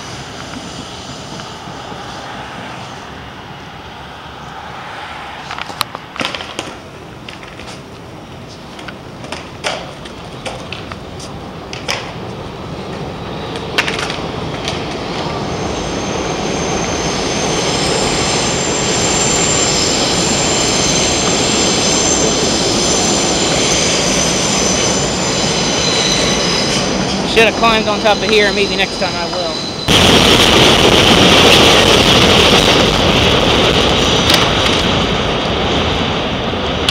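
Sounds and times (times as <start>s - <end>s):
high steady squeal: 0.0s - 5.5s, 12.6s - 36.8s
elevated train rumbling: 0.0s - 36.9s.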